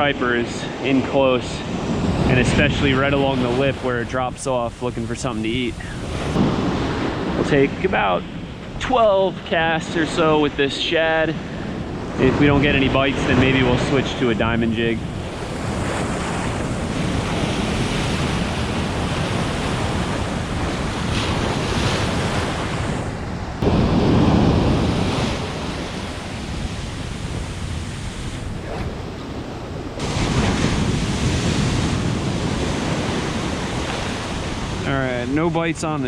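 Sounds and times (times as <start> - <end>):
ocean surf breaking on beach: 0.0 - 36.0
wind buffeting microphone: 0.0 - 36.0.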